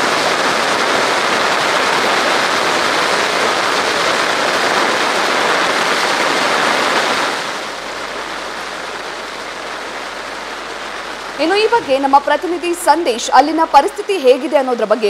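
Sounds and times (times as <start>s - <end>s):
heavy rain on standing water: 0.0s - 15.0s.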